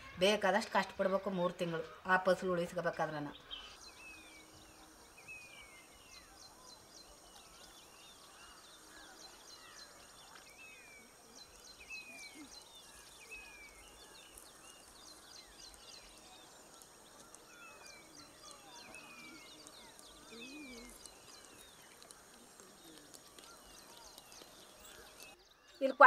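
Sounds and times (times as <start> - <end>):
high bird chirps: 3.4 - 26.0.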